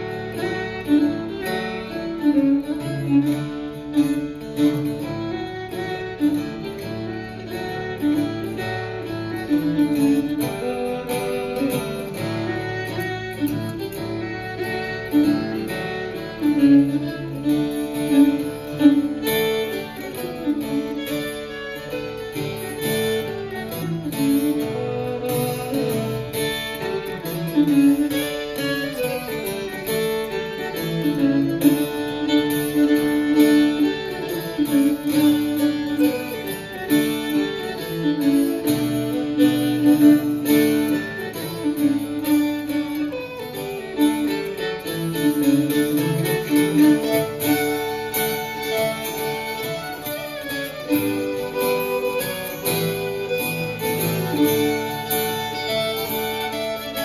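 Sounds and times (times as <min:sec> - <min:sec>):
fiddle playing folk melody: 0:00.0 - 0:57.0
strummed and plucked guitar: 0:00.0 - 0:57.0.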